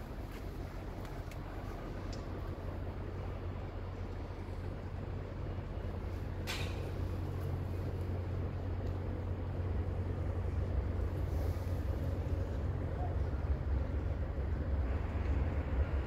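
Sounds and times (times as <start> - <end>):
construction site rumble: 0.0 - 16.0.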